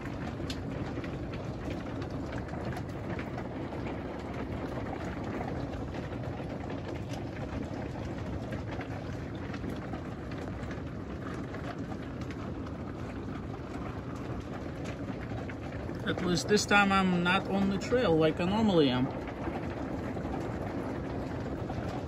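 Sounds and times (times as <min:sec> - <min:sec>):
hailstones ticking: 0:00.0 - 0:22.0
rain hissing on truck and gravel: 0:00.0 - 0:22.0.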